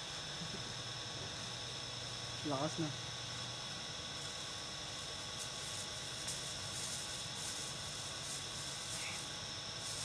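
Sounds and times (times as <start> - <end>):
heat gun blower hissing: 0.0 - 10.0.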